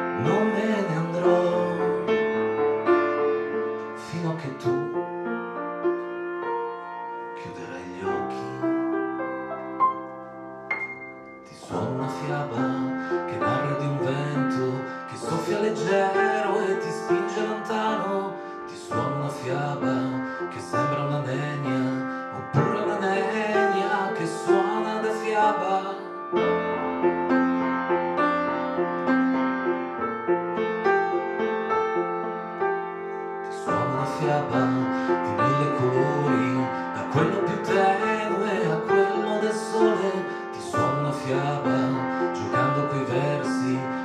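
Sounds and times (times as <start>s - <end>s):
piano playing: 0.0s - 44.0s.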